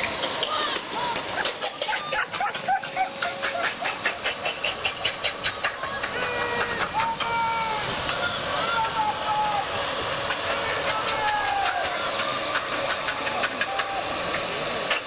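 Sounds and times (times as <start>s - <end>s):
spectators shouting: 0.2s - 4.4s, 5.6s - 14.8s.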